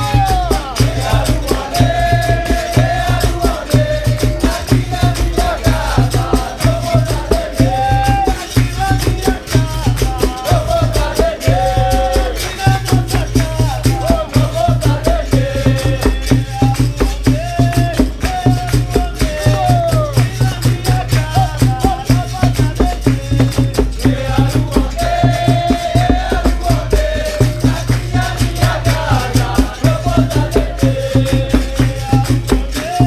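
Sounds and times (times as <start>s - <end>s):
hand percussion beat: 0.0s - 33.0s
people singing: 0.0s - 33.0s
shaker rattle: 0.0s - 33.0s.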